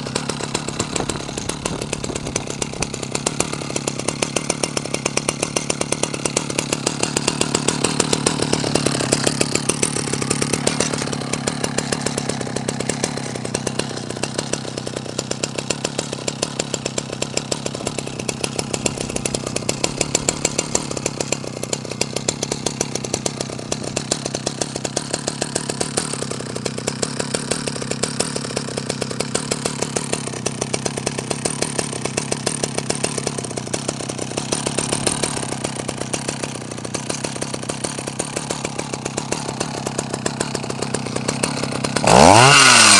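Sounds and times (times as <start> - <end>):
chainsaw engine idling: 0.0 - 42.9.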